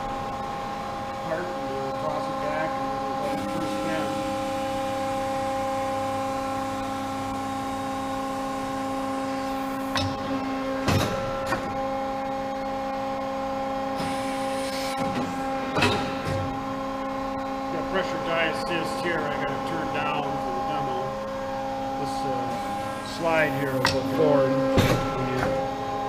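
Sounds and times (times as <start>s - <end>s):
hydraulic unit hum and whine: 0.0s - 26.0s.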